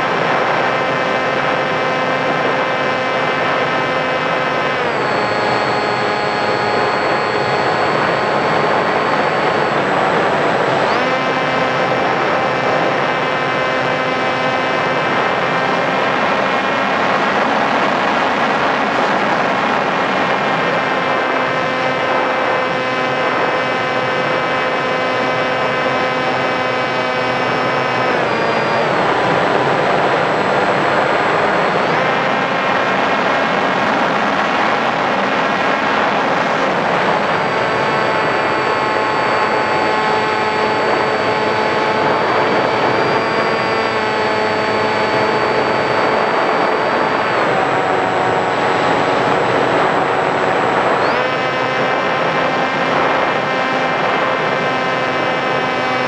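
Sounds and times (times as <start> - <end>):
electric motor and propeller whining: 0.0 - 56.0.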